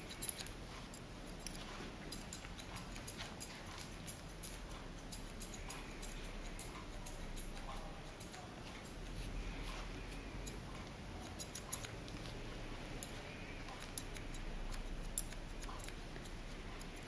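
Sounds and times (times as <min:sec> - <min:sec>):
scissors snipping hair: 0:00.0 - 0:17.0.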